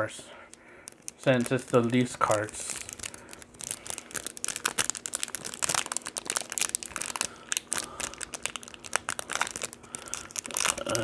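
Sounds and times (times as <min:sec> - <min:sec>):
plastic wrapper crinkling: 0:00.5 - 0:11.0.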